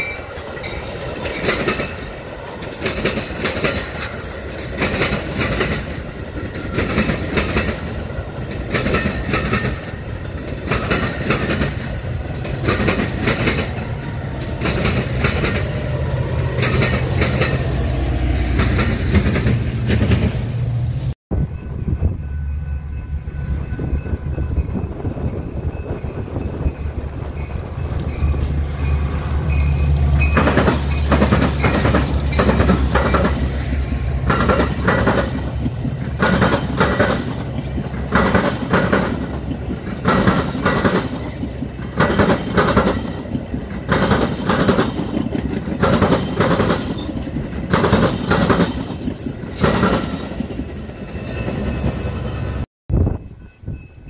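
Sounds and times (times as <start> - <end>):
train wheels clattering over rail joints: 0.0 - 20.5, 26.6 - 51.7
diesel locomotive engine rumbling: 0.0 - 54.0.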